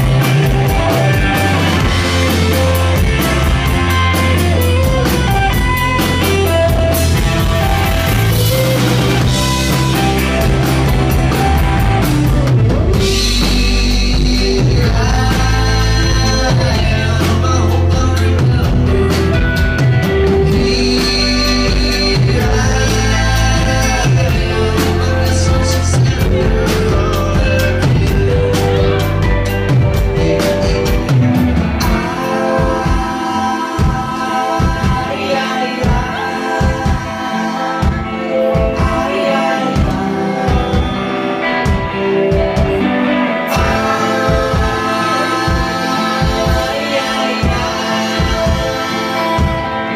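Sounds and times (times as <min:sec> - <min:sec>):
rock band playing live: 0:00.0 - 0:49.9
sung vocals: 0:00.0 - 0:49.9.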